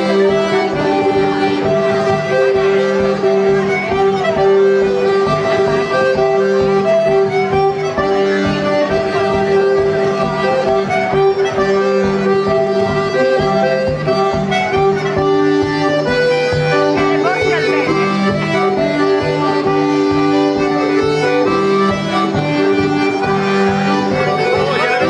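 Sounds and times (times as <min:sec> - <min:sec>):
button accordion melody: 0:00.0 - 0:25.0.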